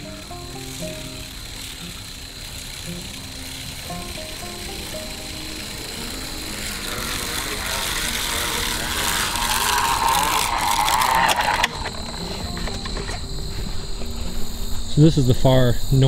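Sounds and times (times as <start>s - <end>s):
hand-crank seed spreader whirring: 0.0s - 16.0s.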